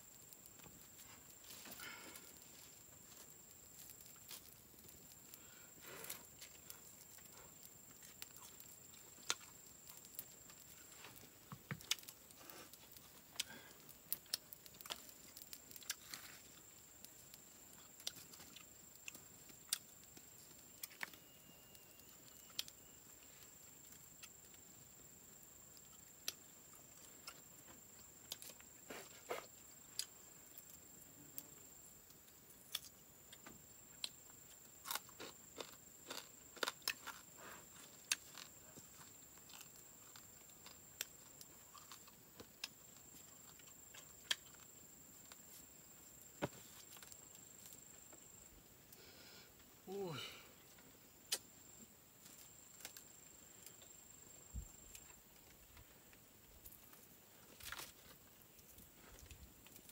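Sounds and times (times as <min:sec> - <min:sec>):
chewing with small crunches: 0:00.0 - 0:49.0, 0:50.6 - 0:59.9
faint high-pitched whine: 0:00.0 - 0:59.9.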